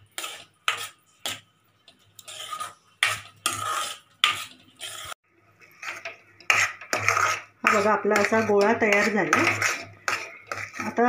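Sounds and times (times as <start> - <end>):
metal ladle scraping dough in pan: 0.0 - 11.0.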